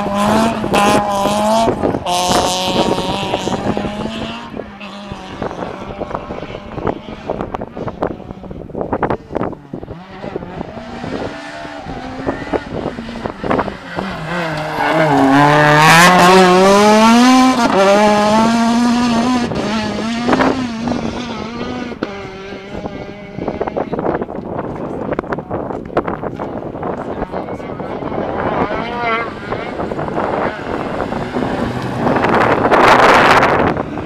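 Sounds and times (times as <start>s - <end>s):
rally car engine passing: 0.0s - 34.0s.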